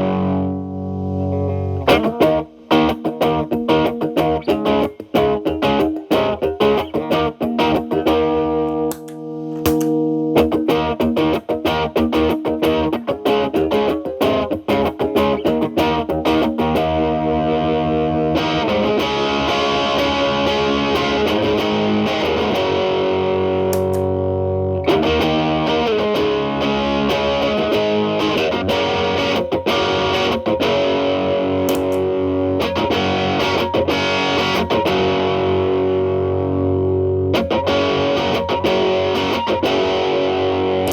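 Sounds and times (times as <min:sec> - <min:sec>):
amplifier hiss: 0:00.0 - 0:28.1, 0:28.7 - 0:40.9
distorted electric guitar: 0:00.0 - 0:40.9.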